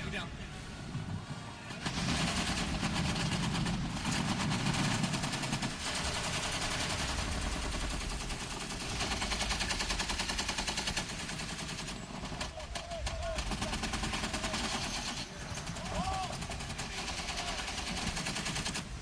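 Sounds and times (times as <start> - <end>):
machine guns firing: 1.5 - 19.0.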